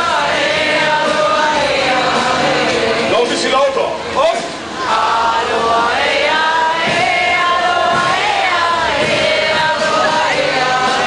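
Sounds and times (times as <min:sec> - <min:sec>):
group of people singing: 0:00.0 - 0:03.8, 0:04.4 - 0:11.0.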